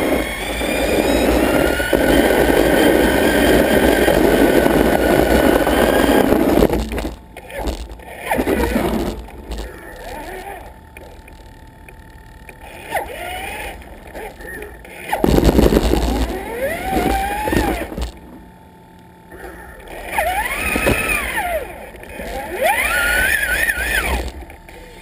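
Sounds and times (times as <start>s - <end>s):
plow blade pushing through snow: 0.0s - 11.2s, 12.6s - 18.4s, 19.3s - 25.0s
rc truck motor whining: 0.0s - 25.0s.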